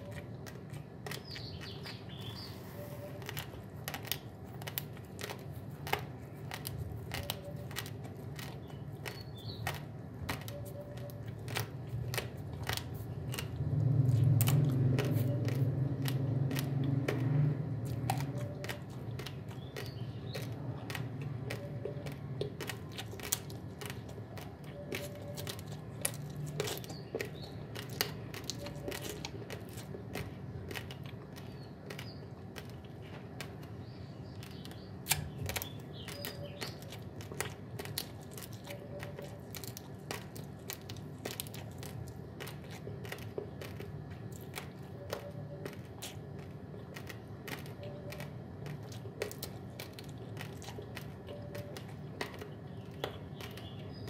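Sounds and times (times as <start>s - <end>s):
chewing dry rice crunches: 0.0s - 54.0s.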